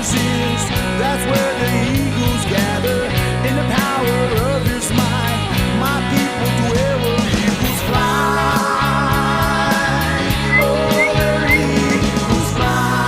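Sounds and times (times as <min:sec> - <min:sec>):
rock music with guitar: 0:00.0 - 0:13.0.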